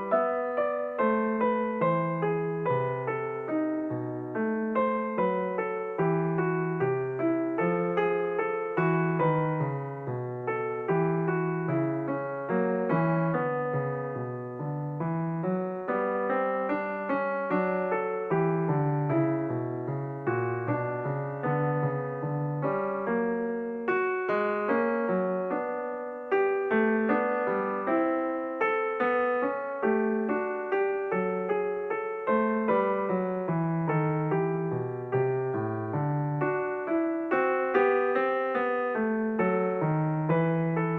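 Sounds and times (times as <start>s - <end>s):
solo piano music: 0.0s - 40.9s.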